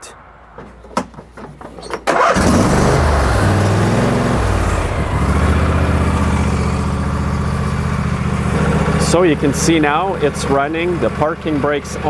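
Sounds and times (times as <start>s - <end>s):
lawn tractor engine starting: 0.8s - 12.0s.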